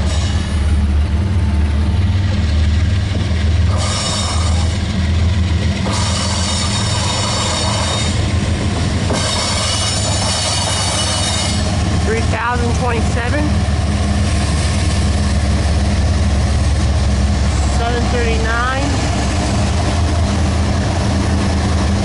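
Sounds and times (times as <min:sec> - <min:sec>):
diesel locomotive engine rumbling: 0:00.0 - 0:22.0.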